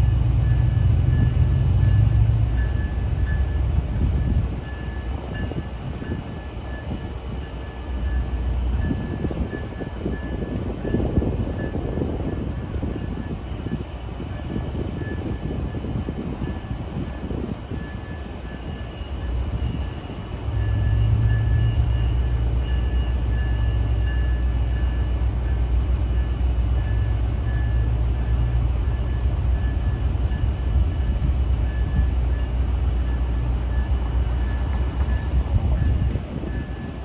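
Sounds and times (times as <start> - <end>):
diesel train rumbling: 0.0 - 37.0.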